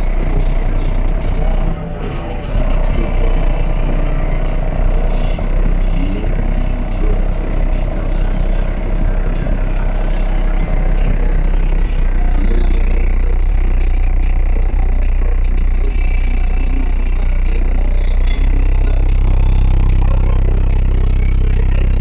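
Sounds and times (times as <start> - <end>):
loud bass-heavy music: 0.0 - 22.0.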